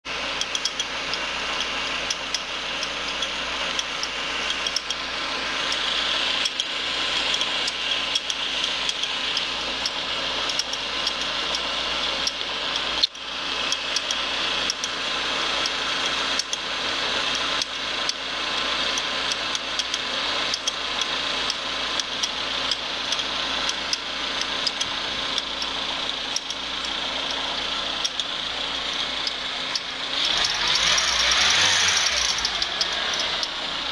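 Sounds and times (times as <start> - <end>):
car engine running: 0.0 - 33.9
high-pitched belt whir: 0.0 - 33.9
irregular ticks: 0.3 - 15.0, 15.6 - 16.7, 17.3 - 33.6.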